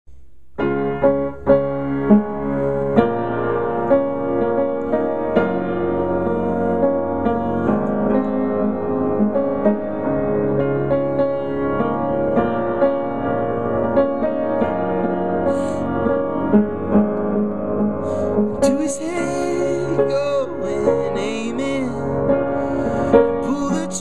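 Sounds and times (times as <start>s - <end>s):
slow piano chords: 0.1s - 24.0s.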